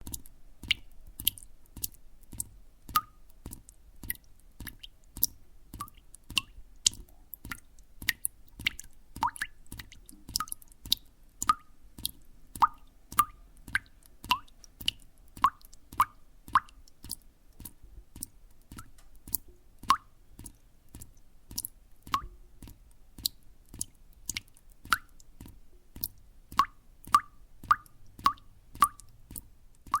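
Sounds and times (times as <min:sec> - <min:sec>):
water drops dripping: 0:00.0 - 0:30.0.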